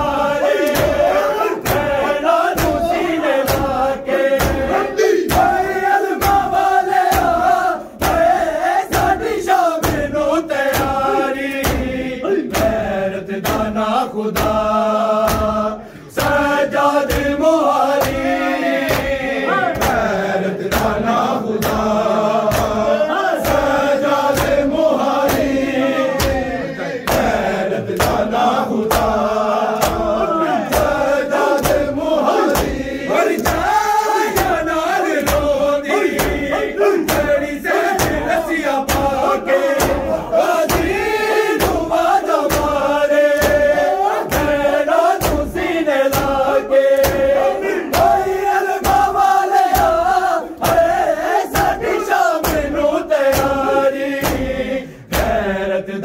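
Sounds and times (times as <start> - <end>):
men chanting in unison: 0.0 - 56.0
hands slapping chests: 0.1 - 13.8, 14.4 - 55.4.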